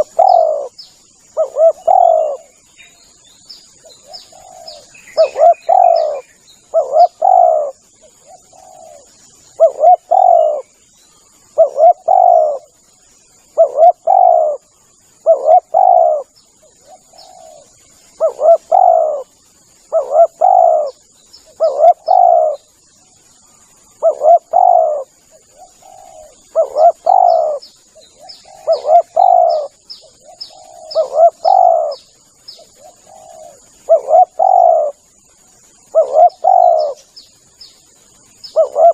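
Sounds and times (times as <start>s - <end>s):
dove cooing: 0.0s - 2.6s, 3.9s - 10.7s, 11.5s - 12.8s, 13.5s - 19.3s, 19.9s - 22.7s, 24.0s - 32.1s, 32.7s - 35.0s, 35.9s - 37.0s, 38.4s - 38.9s
small bird chirping: 0.0s - 38.9s.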